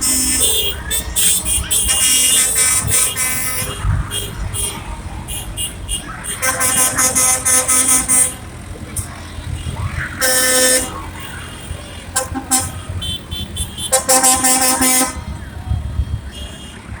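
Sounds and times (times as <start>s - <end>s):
tractor horns: 0.0s - 8.7s, 9.4s - 17.0s
tractor engines rumbling: 0.0s - 17.0s.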